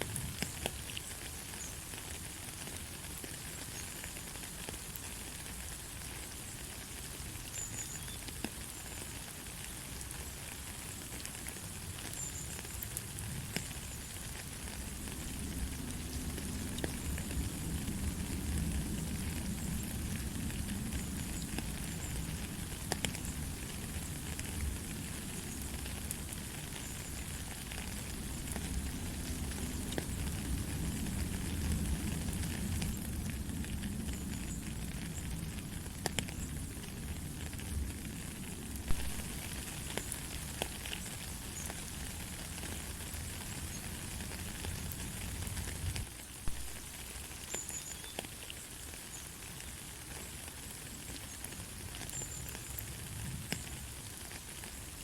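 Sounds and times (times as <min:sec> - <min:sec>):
rain drop ticks: 0:00.0 - 0:54.8
light rain hissing: 0:00.0 - 0:55.0.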